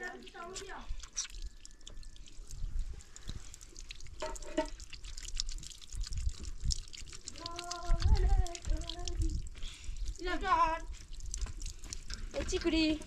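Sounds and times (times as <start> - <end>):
water splashing on concrete: 0.4 - 13.0
water running from tap: 1.3 - 13.0.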